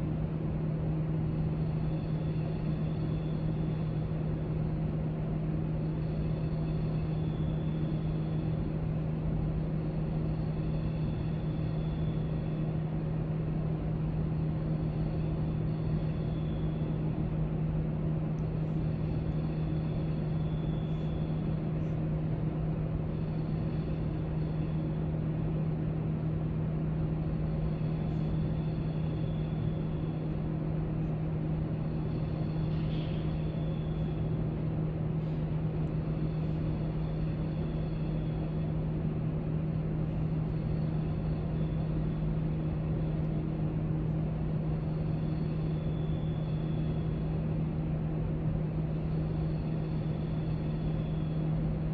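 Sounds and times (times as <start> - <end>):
ventilation hum: 0.0 - 51.9.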